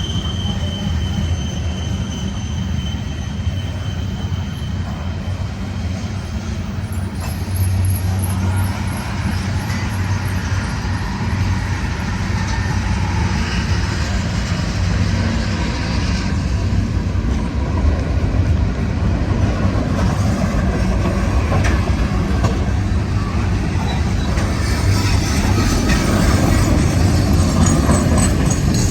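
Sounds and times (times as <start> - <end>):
freight train wheels rumbling: 0.0 - 28.9.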